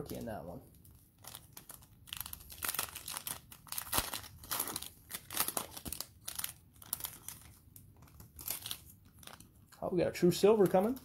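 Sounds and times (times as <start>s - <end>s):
cellophane wrapper crinkling: 0.0s - 9.8s, 10.4s - 11.0s.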